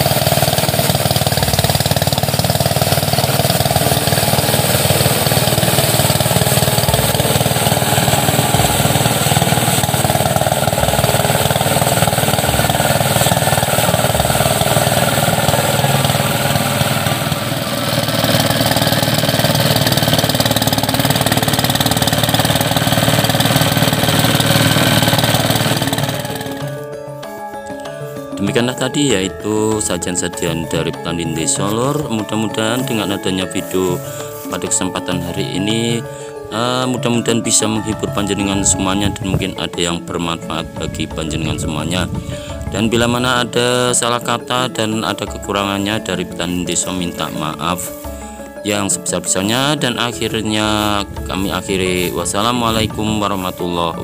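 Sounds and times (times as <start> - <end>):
rice thresher running: 0.0 - 54.0.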